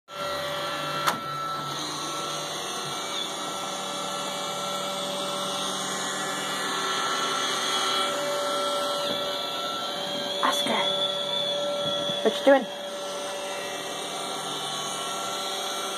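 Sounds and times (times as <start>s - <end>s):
robot vacuum whirring on carpet: 0.1s - 15.9s.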